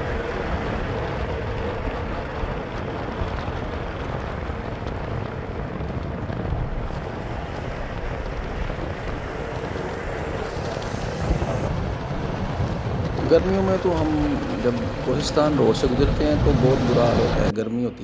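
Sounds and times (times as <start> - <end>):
wind rushing over microphone: 0.0 - 17.6
vehicle road and engine noise: 0.0 - 18.0.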